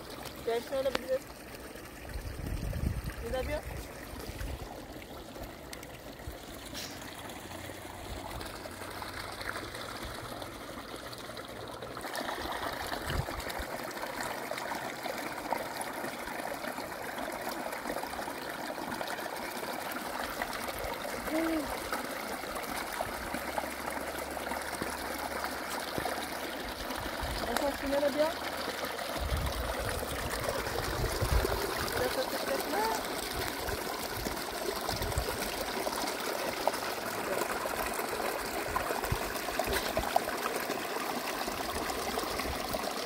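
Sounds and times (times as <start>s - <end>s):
water running and trickling: 0.0s - 43.0s.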